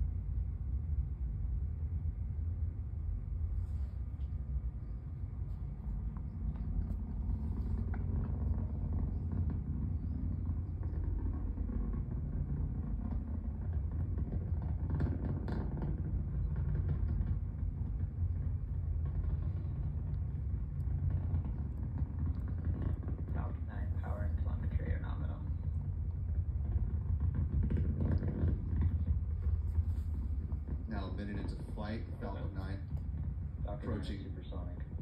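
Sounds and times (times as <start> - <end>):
rocket engines rumbling: 0.0 - 35.0.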